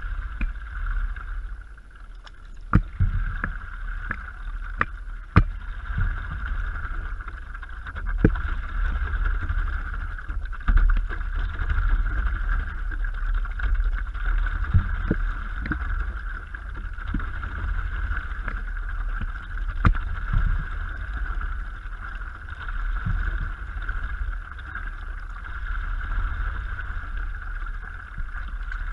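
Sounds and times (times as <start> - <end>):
low rumble of water and wind: 0.0 - 28.9
paddle strokes in water: 0.0 - 28.9.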